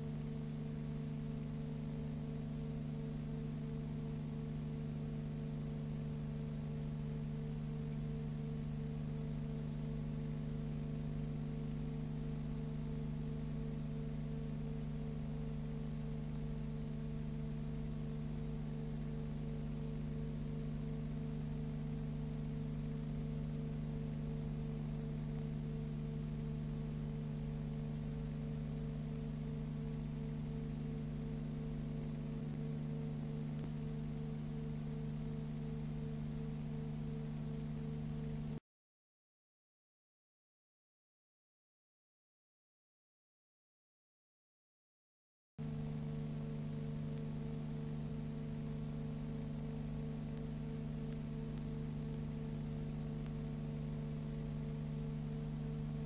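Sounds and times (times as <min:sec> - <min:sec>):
steady machine hum: 0:00.0 - 0:38.6, 0:45.6 - 0:56.0.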